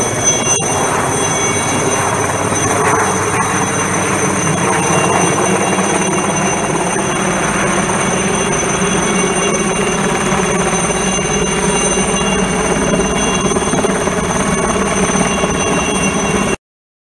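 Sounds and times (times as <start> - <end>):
helicopter rotor and engine: 0.0 - 16.6
high turbine whine: 0.0 - 16.6.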